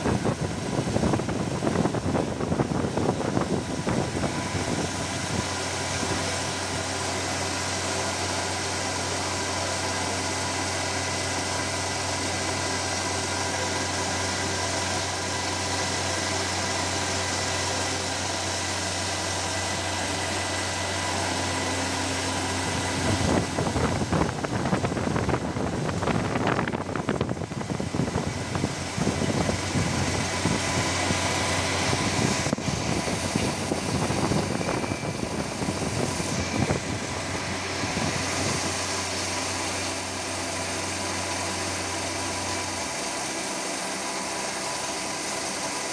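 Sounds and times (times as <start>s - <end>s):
coolant spraying hiss: 0.0s - 45.9s
milling machine humming: 0.0s - 45.9s.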